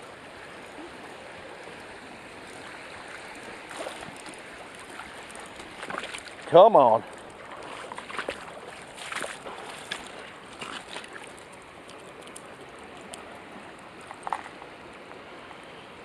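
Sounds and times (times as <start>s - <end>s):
river current rushing over gravel: 0.0s - 16.0s.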